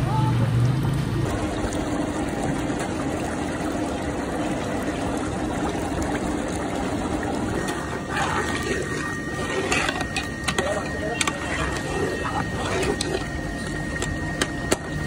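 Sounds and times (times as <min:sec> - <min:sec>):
thick liquid bubbling in pot: 0:00.1 - 0:15.0.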